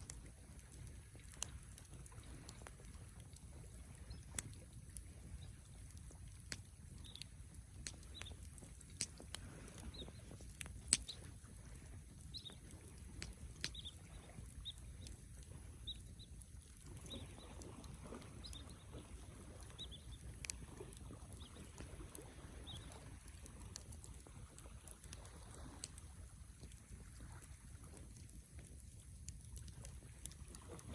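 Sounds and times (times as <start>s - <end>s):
low fire rumble: 0.0s - 30.9s
wood fire crackling and popping: 0.0s - 30.9s.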